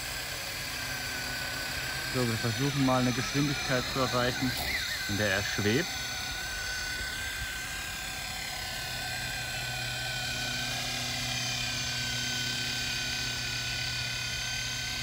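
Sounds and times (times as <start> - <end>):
model helicopter rotor whine: 0.0 - 15.0.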